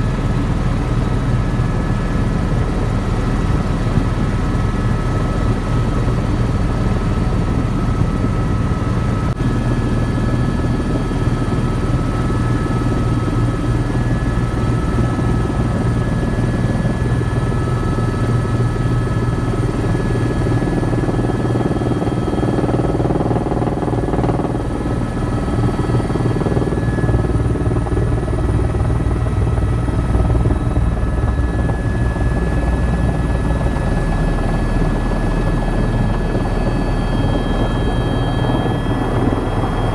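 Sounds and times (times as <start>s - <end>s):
helicopter rotor drone: 0.0s - 39.9s
high turbine whine: 4.2s - 39.9s.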